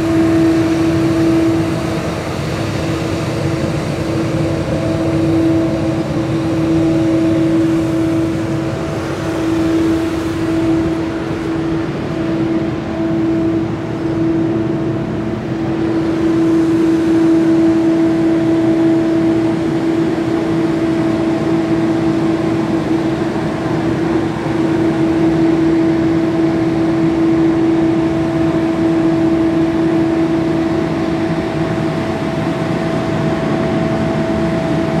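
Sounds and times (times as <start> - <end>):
street sweeper engine whine: 0.0 - 35.0.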